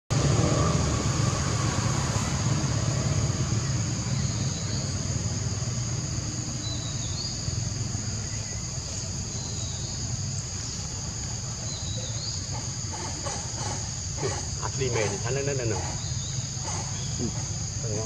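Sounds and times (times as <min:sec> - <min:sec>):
insects droning: 0:00.1 - 0:18.0.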